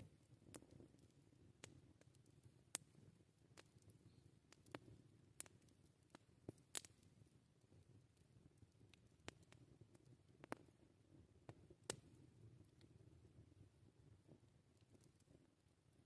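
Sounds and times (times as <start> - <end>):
campfire crackling and popping: 0.0 - 16.0
low rumble of burning fire: 0.0 - 16.0.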